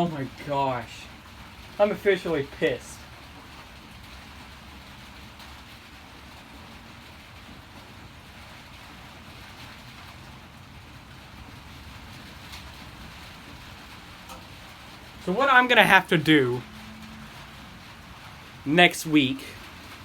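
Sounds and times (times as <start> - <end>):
rain on a metal roof: 0.0 - 20.0.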